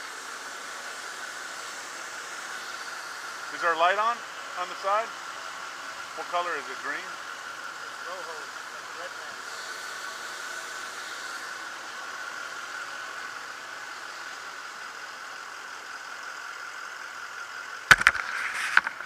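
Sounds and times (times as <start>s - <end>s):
fire engine idling: 0.0s - 19.0s.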